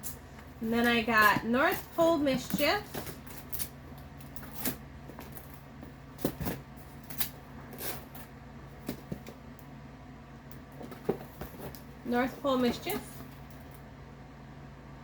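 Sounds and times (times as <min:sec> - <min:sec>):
packages clicking and rustling: 0:00.4 - 0:09.4, 0:10.6 - 0:13.8.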